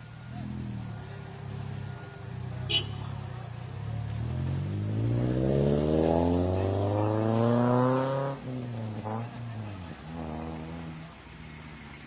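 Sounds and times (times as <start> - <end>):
engine accelerating: 0.0 - 12.0.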